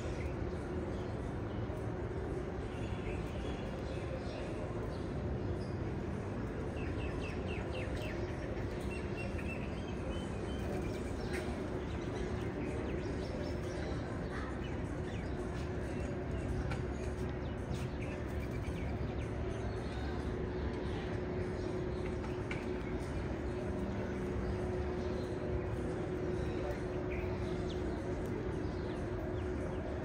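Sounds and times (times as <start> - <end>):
low background hum and rumble: 0.0 - 30.0.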